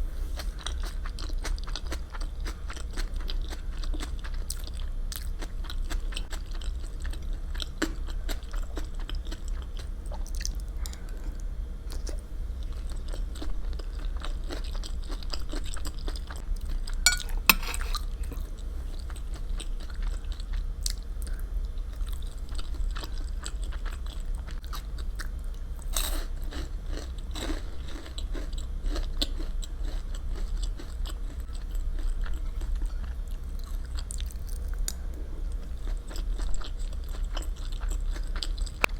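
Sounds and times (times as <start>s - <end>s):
chewing and eating: 0.3s - 38.9s.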